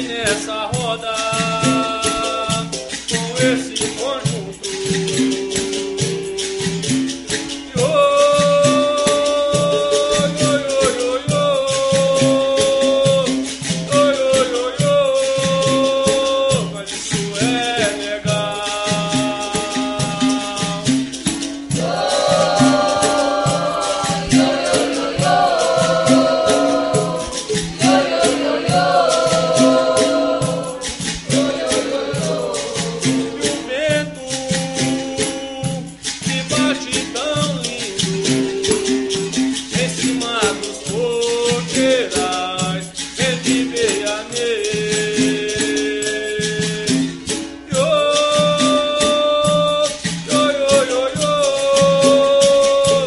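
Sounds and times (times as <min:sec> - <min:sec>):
rhythmic percussion: 0:00.0 - 0:53.0
shaker rattling: 0:00.0 - 0:53.0
voices singing together: 0:00.0 - 0:53.0.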